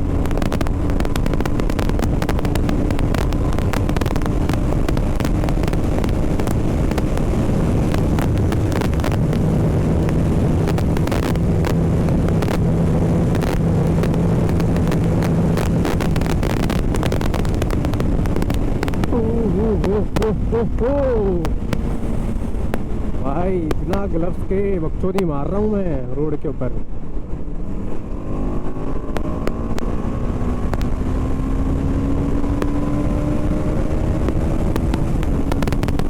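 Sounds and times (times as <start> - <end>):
motorcycle engine running: 0.0 - 24.7, 26.8 - 36.0
wind noise on microphone: 0.0 - 36.0.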